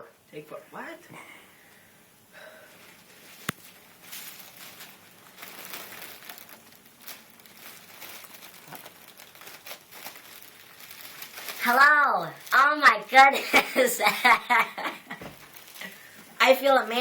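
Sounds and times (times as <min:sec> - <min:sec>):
balloon crinkling and rustling: 0:02.7 - 0:17.0.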